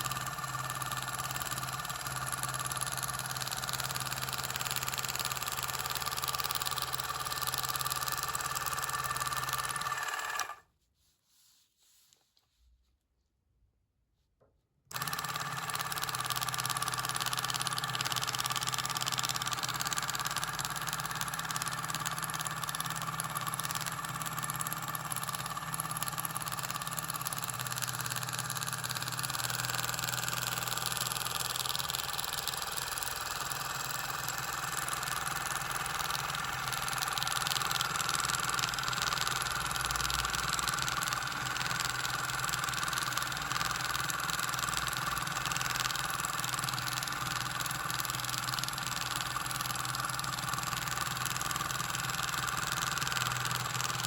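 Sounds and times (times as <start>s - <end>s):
marking machine pin buzzing: 0.0s - 10.6s, 14.9s - 54.0s.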